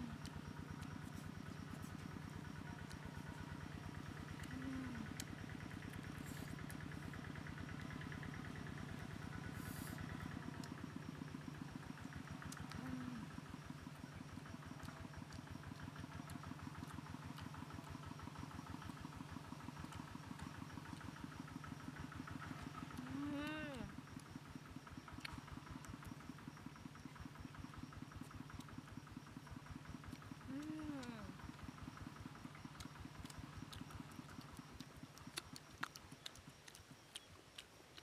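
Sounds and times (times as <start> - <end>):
small engine idling: 0.0 - 38.0.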